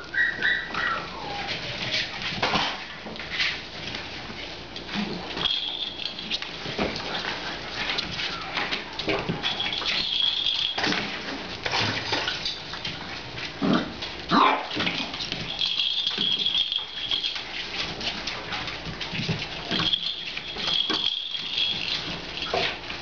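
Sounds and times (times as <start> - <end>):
puppies yipping and whining: 0.0 - 2.3, 5.1 - 12.7, 13.8 - 23.0
puppies rustling wood shavings: 0.0 - 23.0.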